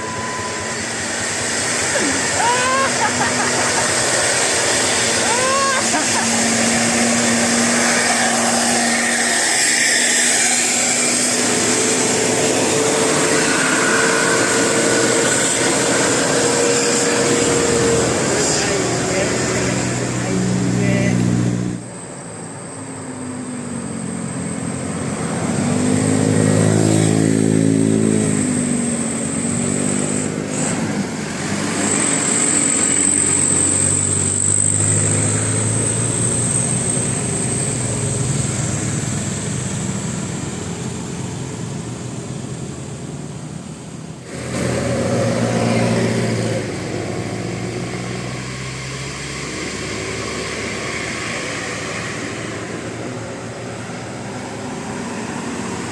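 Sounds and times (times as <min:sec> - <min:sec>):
vehicle engines passing: 0:00.0 - 0:55.9.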